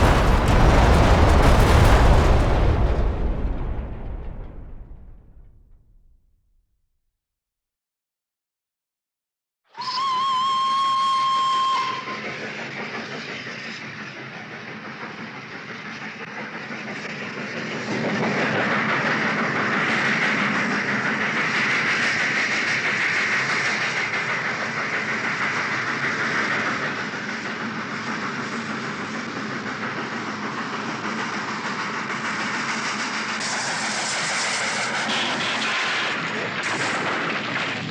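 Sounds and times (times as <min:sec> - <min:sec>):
train rattling on rails: 0:00.0 - 0:05.1, 0:10.6 - 0:37.9.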